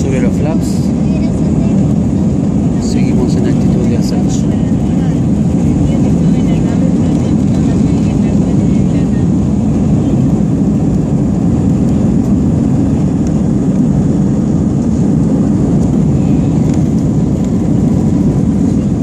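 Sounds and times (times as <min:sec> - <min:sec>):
airliner engine and airflow roar: 0:00.0 - 0:19.0.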